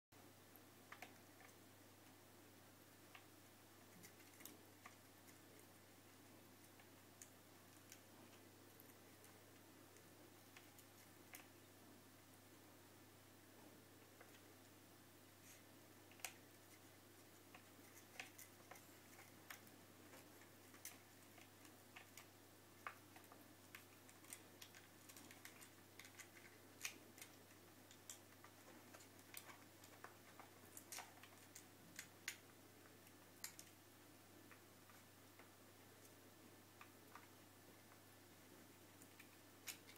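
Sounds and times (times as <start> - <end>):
faint low hum: 0.2 - 39.9.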